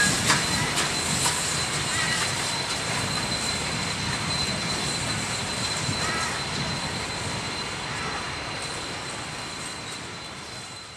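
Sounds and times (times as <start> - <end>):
train wheels rumbling on track: 0.0 - 10.9.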